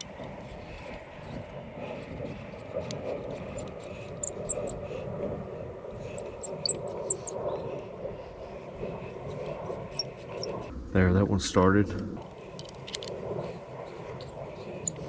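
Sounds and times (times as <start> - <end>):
low background drone: 0.0 - 15.0.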